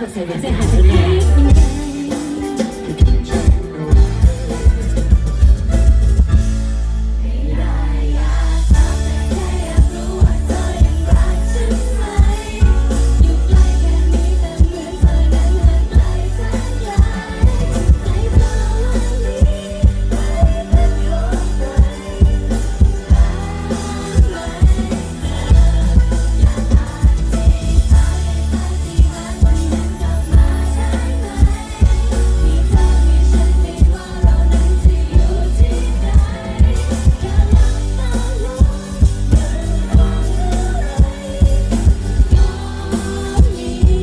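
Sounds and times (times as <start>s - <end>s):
heavy bass: 0.0s - 2.1s, 3.0s - 44.0s
person singing: 0.0s - 5.6s, 7.6s - 44.0s
keyboard: 0.0s - 44.0s
live pop band: 0.0s - 44.0s
steady drum beat: 0.0s - 44.0s.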